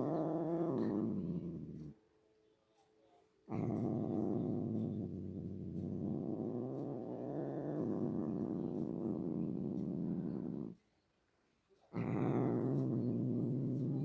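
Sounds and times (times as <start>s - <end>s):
cat low rough vocalizing: 0.0s - 2.0s, 3.5s - 10.8s, 11.9s - 14.0s.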